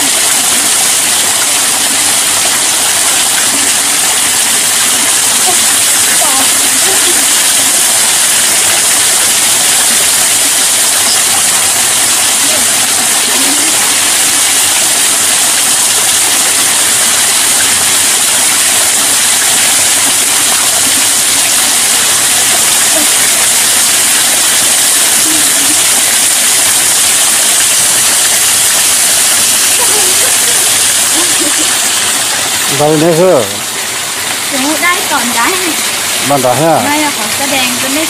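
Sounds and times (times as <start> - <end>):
waterfall rushing into pool: 0.0 - 38.0.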